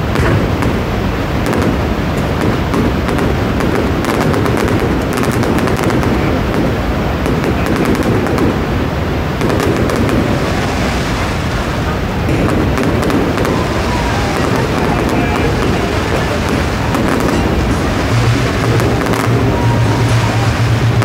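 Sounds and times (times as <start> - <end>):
fireworks crackling and popping: 0.0 - 21.0
loud background noise: 0.0 - 21.0.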